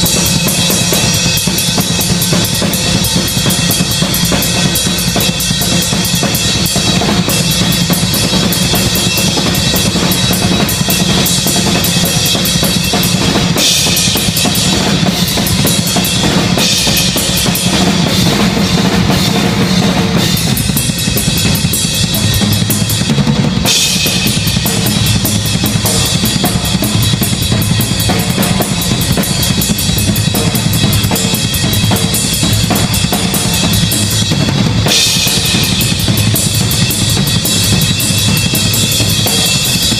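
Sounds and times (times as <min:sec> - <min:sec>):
cymbal crashes: 0:00.0 - 0:39.9
drum solo on drum kit: 0:00.0 - 0:39.9.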